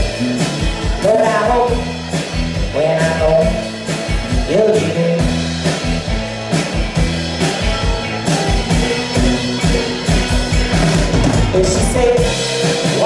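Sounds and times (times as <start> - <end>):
drum kit steady beat: 0.0 - 13.0
electric guitars: 0.0 - 13.0.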